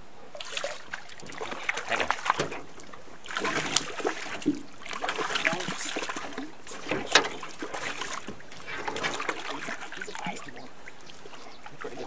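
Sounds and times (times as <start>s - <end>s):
fish thrashing and splashing: 0.4s - 12.0s.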